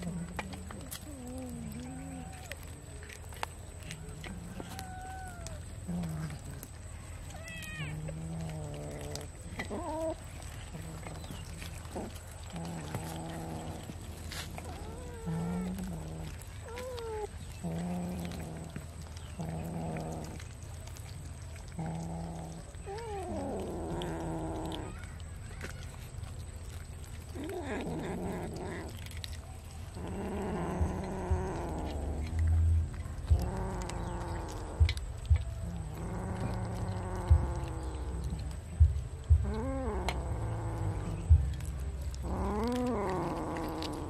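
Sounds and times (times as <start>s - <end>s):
cats growling and yowling: 0.0s - 44.0s.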